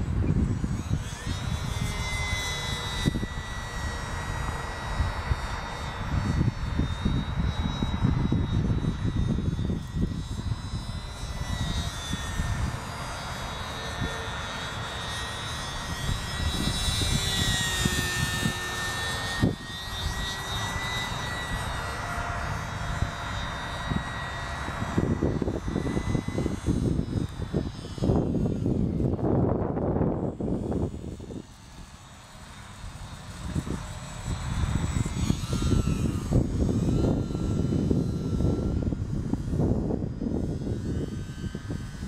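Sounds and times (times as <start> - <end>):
model plane motor drone: 0.0 - 42.0
wind rumble on microphone: 0.0 - 42.0.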